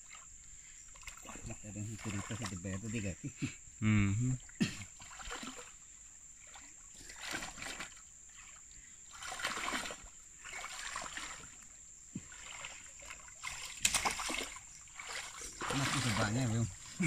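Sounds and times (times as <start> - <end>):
water sloshing as person wades: 0.0 - 3.4, 4.3 - 17.0.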